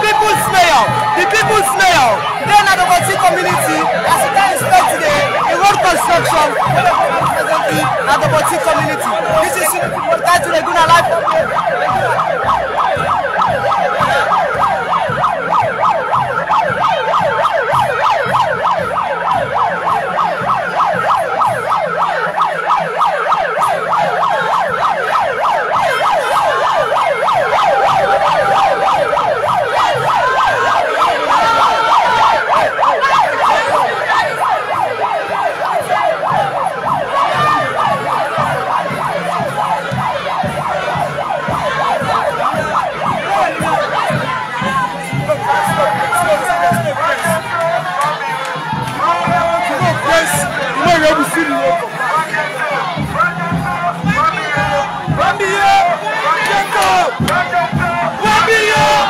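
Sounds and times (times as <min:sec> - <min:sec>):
siren yelping: 0:00.0 - 0:59.0.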